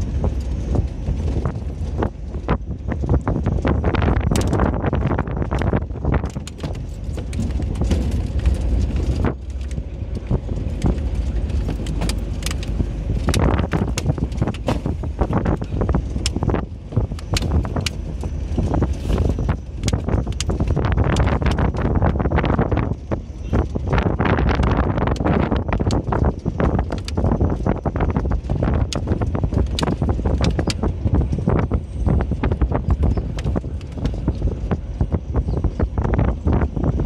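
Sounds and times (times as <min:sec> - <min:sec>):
knocks and rattles over ruts: 0:00.0 - 0:37.0
vehicle tyres rumbling on dirt road: 0:00.0 - 0:37.0.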